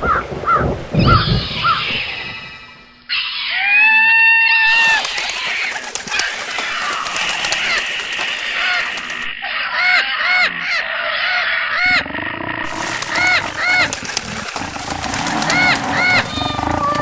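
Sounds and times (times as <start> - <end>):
birds calling in chorus: 0.0 - 17.0.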